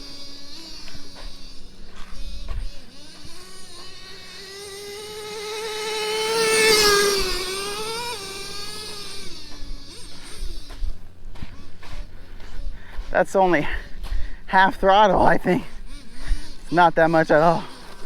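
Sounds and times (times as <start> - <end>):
buzzing model car engine: 0.0 - 18.0.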